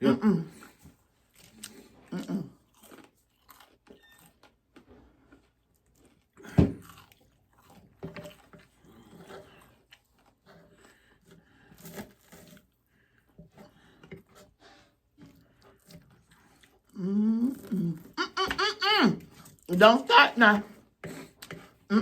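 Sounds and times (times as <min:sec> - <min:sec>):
crunchy food being chewed: 0:00.5 - 0:18.2, 0:19.2 - 0:19.7, 0:20.6 - 0:21.9.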